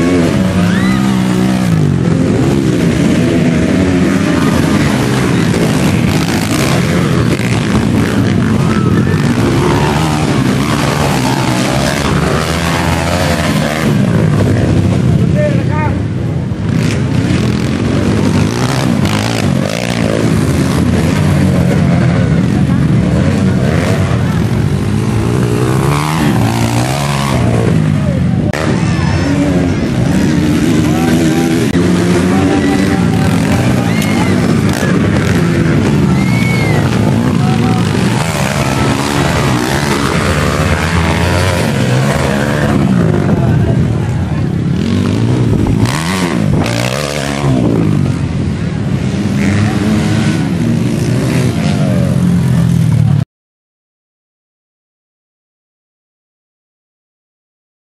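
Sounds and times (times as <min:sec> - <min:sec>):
dirt bike engines revving: 0:00.0 - 0:53.2.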